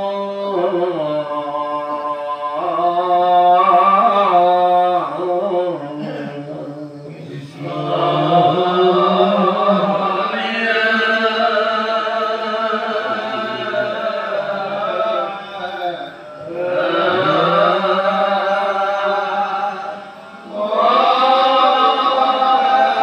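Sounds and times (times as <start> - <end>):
congregation chanting: 0.0 - 23.0.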